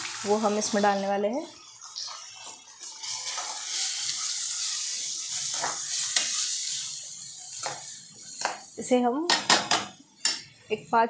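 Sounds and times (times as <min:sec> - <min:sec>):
lentils sizzling in hot oil: 0:00.0 - 0:09.3.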